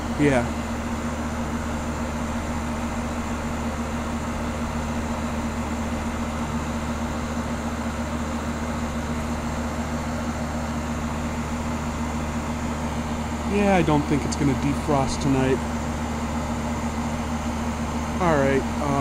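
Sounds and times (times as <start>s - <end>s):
heat pump compressor and fan hum: 0.0s - 19.0s.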